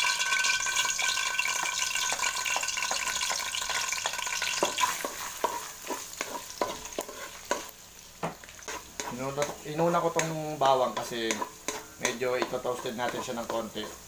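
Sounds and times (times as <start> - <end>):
garlic sizzling in hot oil: 0.0 - 14.0
spatula scraping and tapping wok: 0.0 - 14.0.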